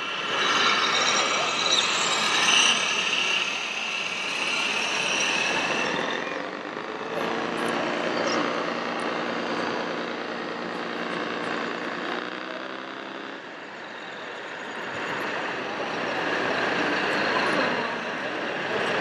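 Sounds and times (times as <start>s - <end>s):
broad mechanical noise: 0.0s - 19.0s
engine-like drone: 0.0s - 19.0s.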